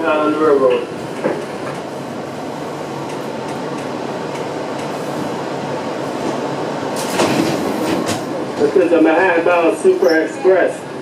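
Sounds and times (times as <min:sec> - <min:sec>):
subway car noise: 0:00.0 - 0:11.0.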